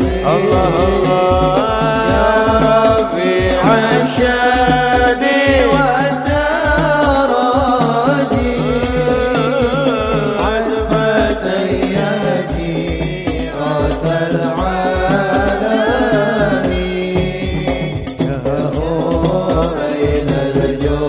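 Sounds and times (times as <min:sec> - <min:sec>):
frame drums beating: 0:00.0 - 0:21.0
men chanting: 0:00.0 - 0:21.0.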